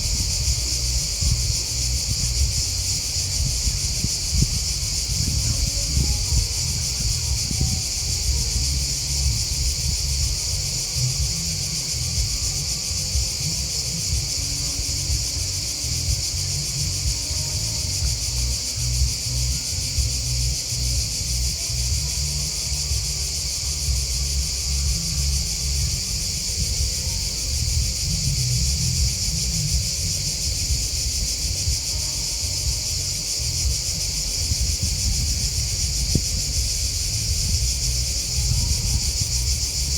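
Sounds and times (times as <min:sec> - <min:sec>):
grasshoppers and crickets chirping: 0:00.0 - 0:39.9
low uneven rumble: 0:00.0 - 0:39.9.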